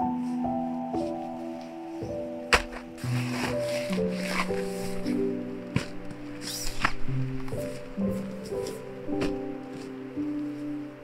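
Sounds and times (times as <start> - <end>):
sustained background music: 0.0 - 11.0
rustling: 0.1 - 11.0.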